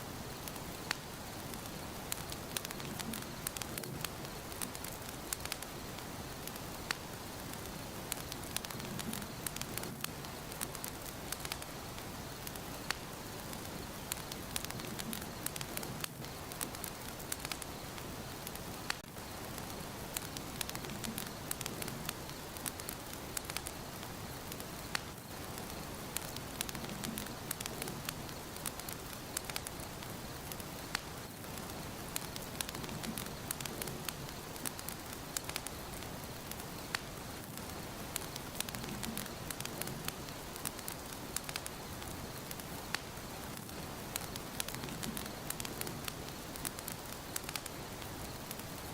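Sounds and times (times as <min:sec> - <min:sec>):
constant hiss: 0:00.0 - 0:48.9
fire crackling in fireplace: 0:00.0 - 0:48.9
sharp pops and snaps: 0:00.2 - 0:48.9.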